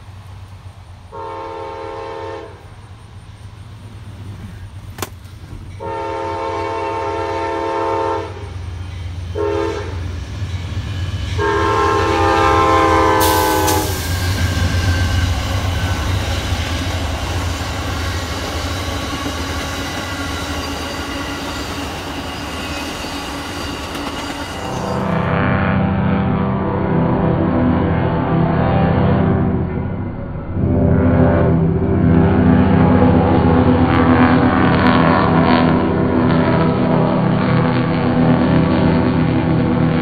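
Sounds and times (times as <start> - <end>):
train cars rumbling past: 0.0 - 40.0
train horn blasts: 1.1 - 2.8, 5.8 - 8.6, 9.2 - 10.2, 11.2 - 22.5, 23.8 - 40.0.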